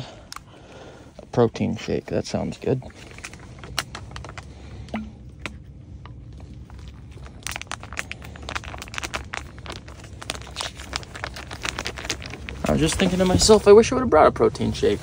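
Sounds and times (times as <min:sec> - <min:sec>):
low steady rumble: 0:00.0 - 0:15.0
plastic pouches crinkling: 0:00.0 - 0:15.0.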